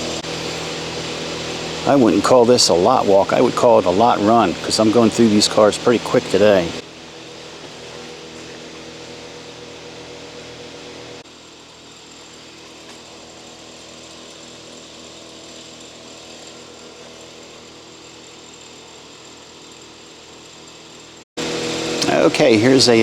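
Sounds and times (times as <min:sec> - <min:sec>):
mechanical drone with low hum: 0:00.0 - 0:23.0.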